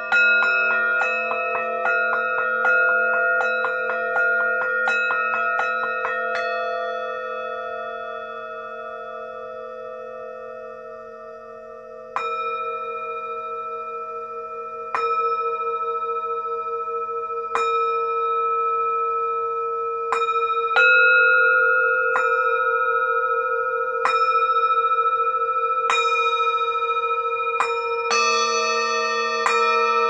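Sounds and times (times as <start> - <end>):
singing bowls ringing: 0.0 - 30.0.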